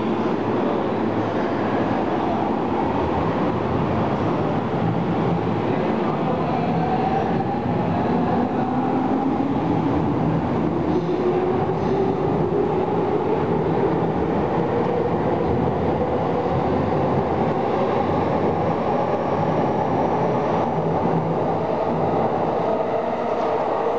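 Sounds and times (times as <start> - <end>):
electric train rumbling: 0.0 - 23.9.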